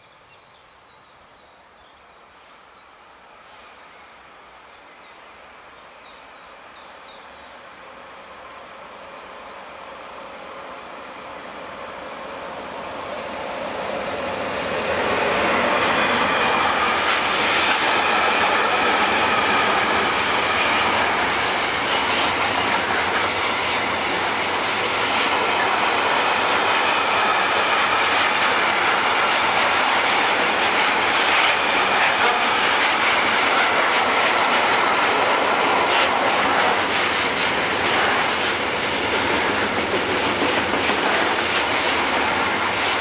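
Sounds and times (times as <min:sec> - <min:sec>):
train wheels rolling on rails: 0:07.8 - 0:43.0.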